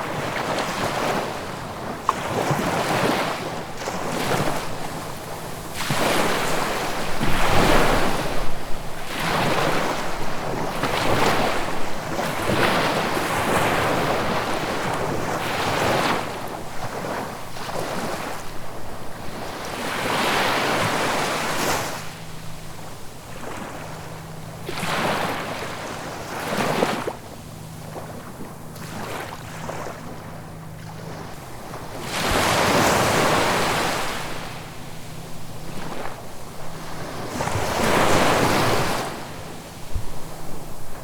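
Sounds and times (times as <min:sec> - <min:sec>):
ocean waves breaking: 0:00.0 - 0:41.0.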